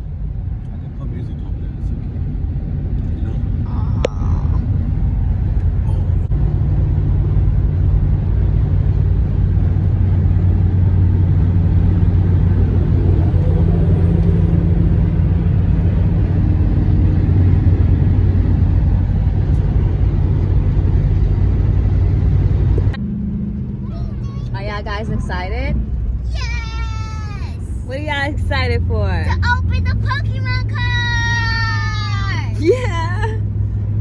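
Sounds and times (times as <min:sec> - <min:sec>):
car cabin road drone: 0:00.0 - 0:34.0.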